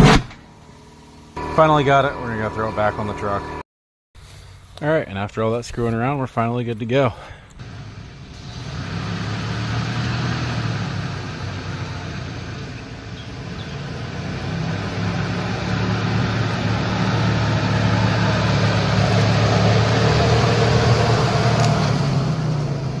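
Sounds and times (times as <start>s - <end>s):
truck engine running: 0.4s - 3.6s, 7.6s - 23.0s
road and tyre noise: 0.6s - 3.6s, 7.5s - 23.0s.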